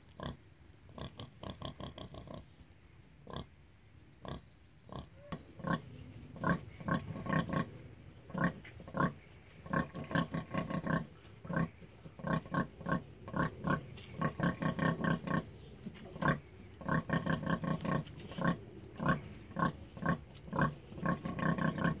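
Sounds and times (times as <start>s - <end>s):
sow grunting: 4.2s - 22.0s.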